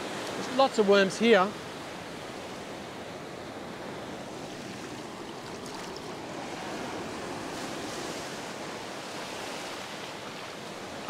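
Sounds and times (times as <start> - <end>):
ocean surf breaking on sand: 0.0 - 11.0.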